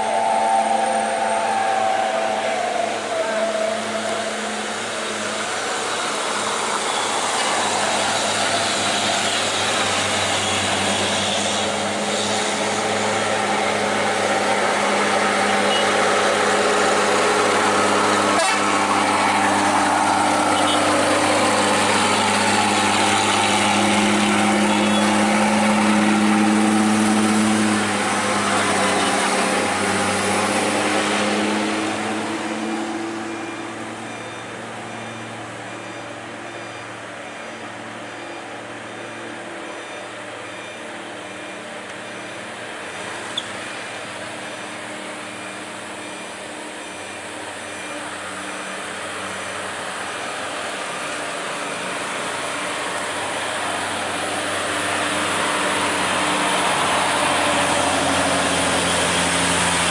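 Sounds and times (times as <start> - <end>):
heavy diesel truck engine: 0.0 - 59.9.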